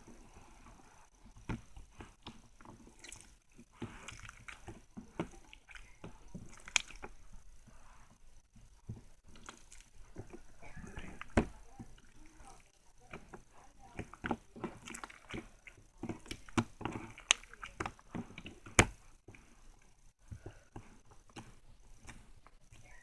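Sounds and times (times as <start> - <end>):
slime squishing with wet pops: 1.1 - 7.8, 8.4 - 23.0.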